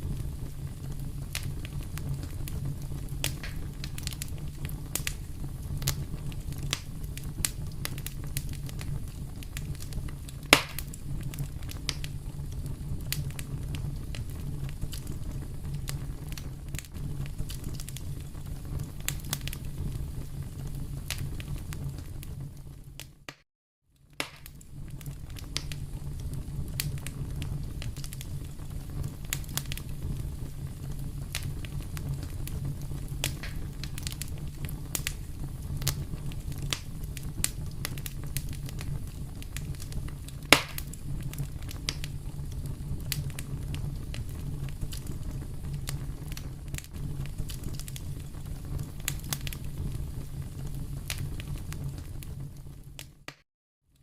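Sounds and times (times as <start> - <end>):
wood fire crackling: 0.0 - 23.4, 24.0 - 53.4.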